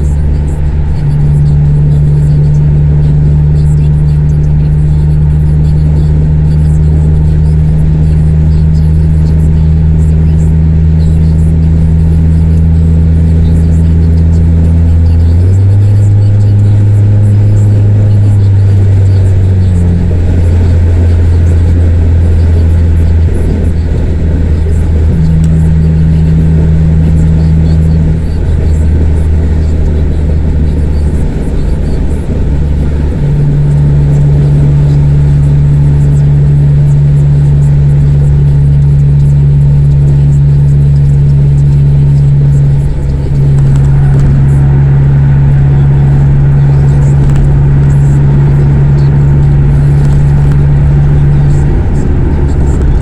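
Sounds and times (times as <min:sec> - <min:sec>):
car engine low drone: 0:00.0 - 0:53.0.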